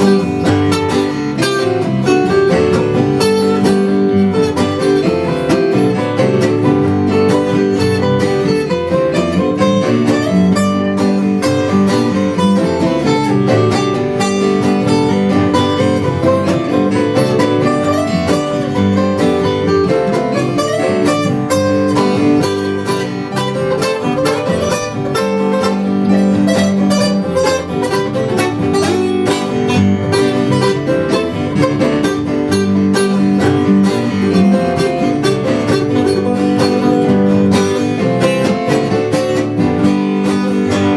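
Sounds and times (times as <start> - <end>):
acoustic guitar picking: 0.0 - 40.9.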